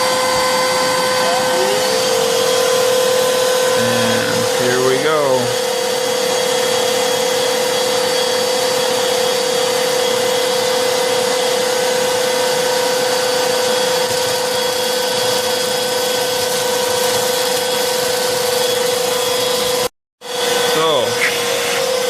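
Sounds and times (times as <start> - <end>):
handheld vacuums whining: 0.0 - 5.5, 7.3 - 22.0.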